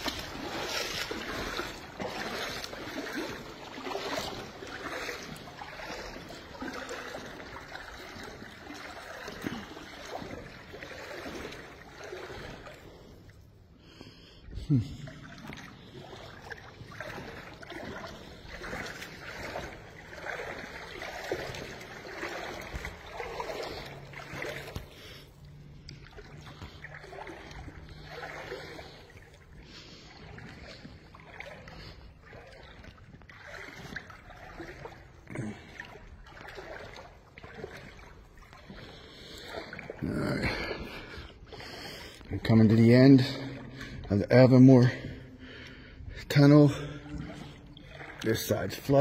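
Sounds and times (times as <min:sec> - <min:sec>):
footsteps sloshing through water: 0:00.0 - 0:49.0.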